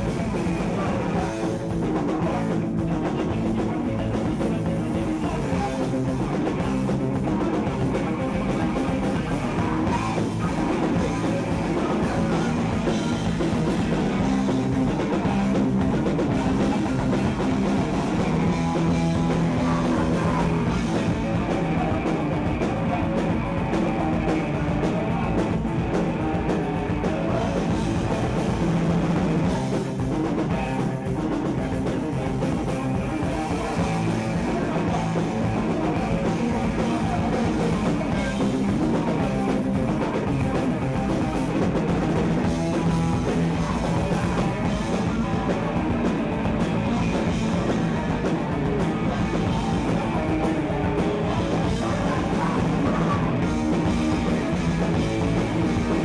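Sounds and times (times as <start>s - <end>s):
singer shouting into microphone: 0.0s - 29.9s, 30.5s - 56.0s
drum kit: 0.0s - 56.0s
electric guitar: 0.0s - 56.0s.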